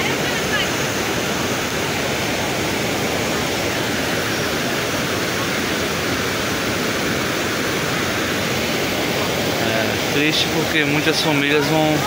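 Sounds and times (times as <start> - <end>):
floodwater pouring over a dam: 0.0 - 12.0.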